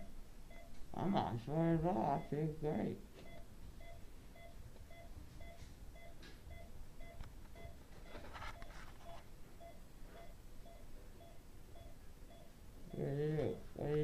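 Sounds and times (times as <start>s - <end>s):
patient monitor beeping: 0.0s - 14.0s.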